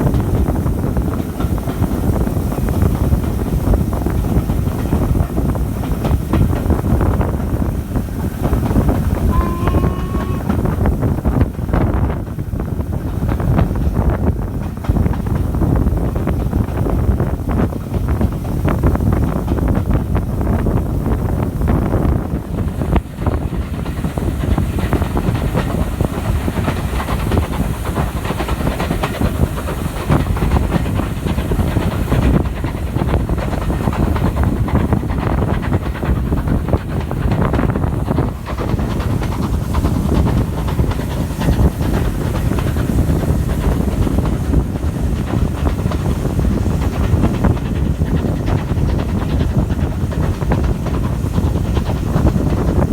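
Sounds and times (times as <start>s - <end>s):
steam train rumbling: 0.0s - 52.9s
wheels clattering on rail: 0.0s - 52.9s.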